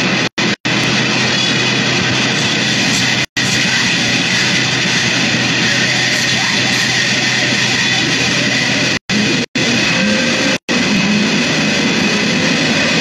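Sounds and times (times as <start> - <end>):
harsh noise music: 0.0 - 13.0.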